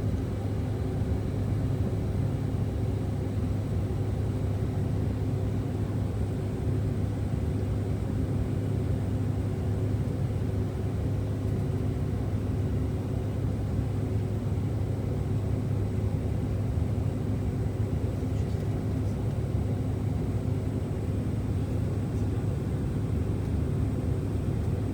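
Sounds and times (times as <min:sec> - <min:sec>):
jet engines droning in cabin: 0:00.0 - 0:24.9.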